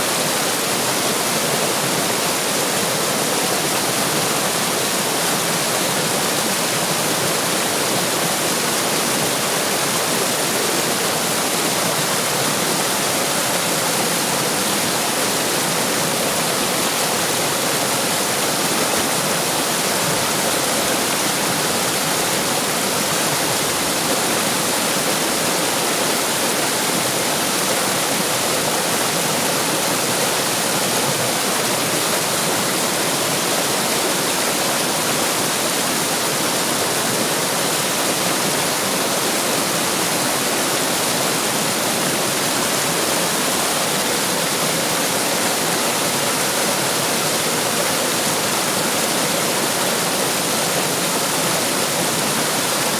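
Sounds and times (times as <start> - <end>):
stream water rushing: 0.0 - 52.9.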